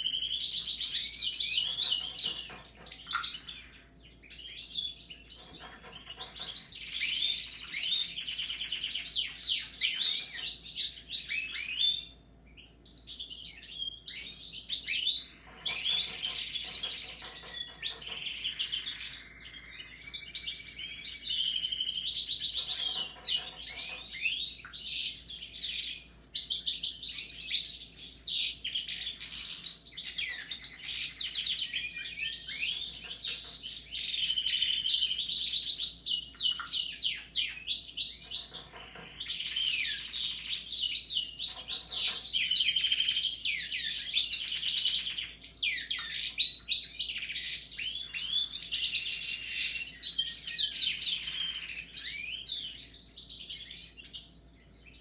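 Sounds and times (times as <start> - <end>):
finches and canary twittering warble: 0.0 - 55.0.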